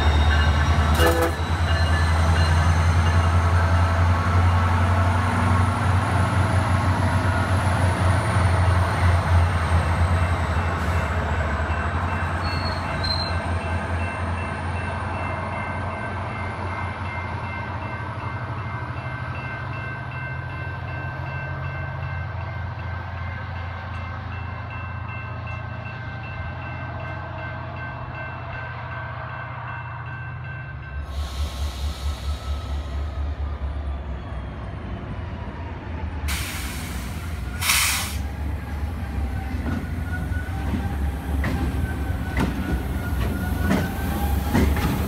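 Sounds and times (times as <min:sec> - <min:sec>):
diesel locomotive engine humming: 0:00.0 - 0:45.0
freight locomotives rumbling past: 0:00.0 - 0:45.0.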